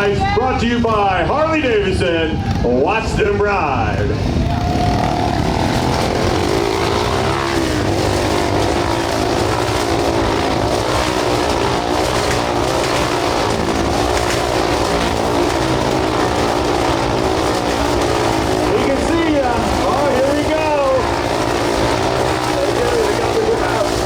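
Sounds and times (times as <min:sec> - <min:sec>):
motorcycle engines running hard: 0:00.0 - 0:24.0.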